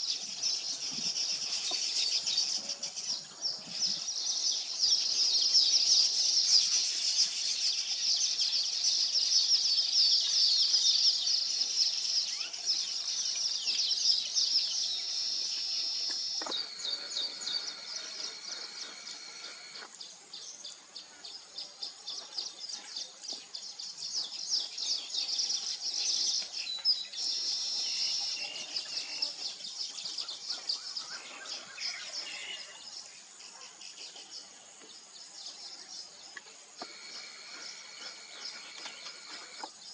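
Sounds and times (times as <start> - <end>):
lower steady bird call: 0.0 - 39.9
weaver birds chattering: 0.0 - 39.9.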